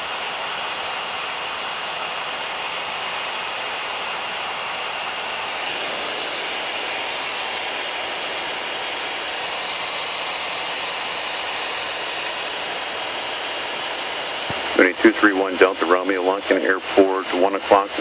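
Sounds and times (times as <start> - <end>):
plane cabin engine hiss: 0.0 - 18.0.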